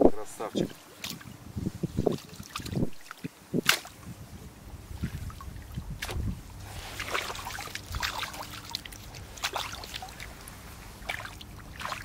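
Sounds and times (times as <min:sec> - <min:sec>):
water splashing and trickling: 0:00.4 - 0:12.0.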